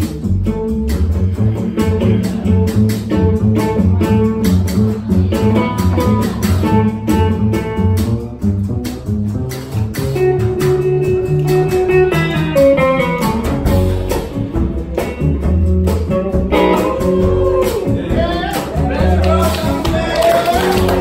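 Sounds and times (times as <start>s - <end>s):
double bass plucked: 0.0s - 21.0s.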